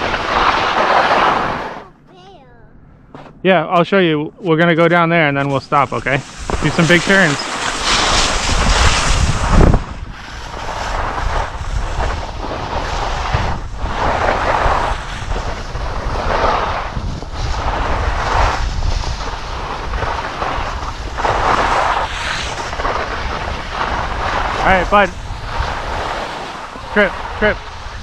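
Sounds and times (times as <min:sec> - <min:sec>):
skis scraping over snow: 0:00.0 - 0:01.8, 0:04.7 - 0:28.0
wind rumbling on microphone: 0:00.0 - 0:01.8, 0:05.4 - 0:28.0.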